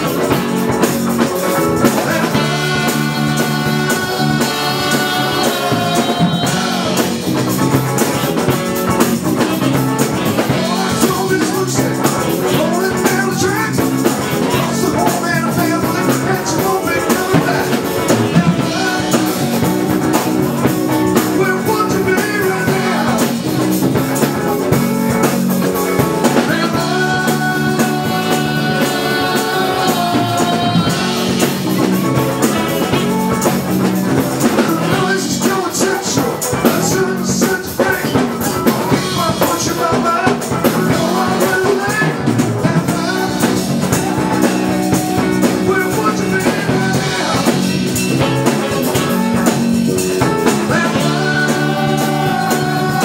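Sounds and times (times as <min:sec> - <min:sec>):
rock and roll band playing: 0:00.0 - 0:53.0.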